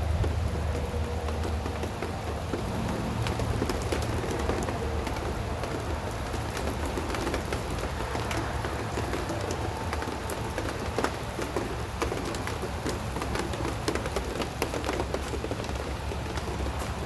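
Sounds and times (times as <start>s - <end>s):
rain falling steadily: 0.0s - 17.0s
raindrops ticking close by: 0.0s - 17.0s.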